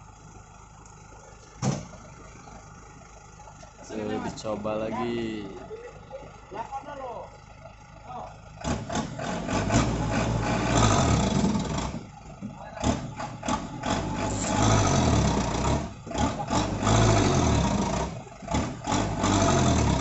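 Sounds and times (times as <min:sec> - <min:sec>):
diesel truck engine revving: 0:01.7 - 0:20.0.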